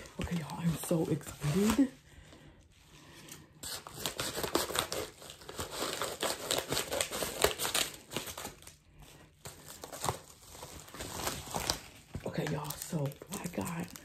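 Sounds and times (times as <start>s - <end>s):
paper crinkling: 0.0s - 14.0s.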